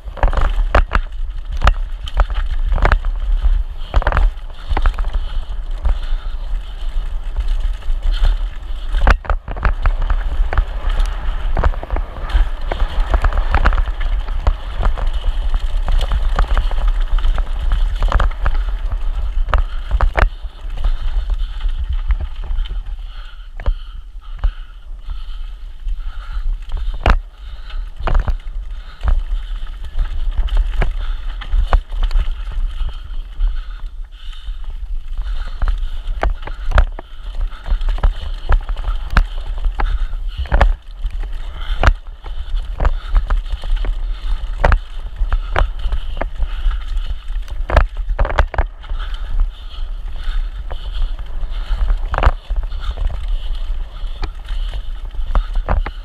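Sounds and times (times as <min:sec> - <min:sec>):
bike clunking and rattling: 0:00.0 - 0:56.0
bike tyre noise: 0:00.0 - 0:56.0
wind rumble on microphone: 0:00.0 - 0:56.0.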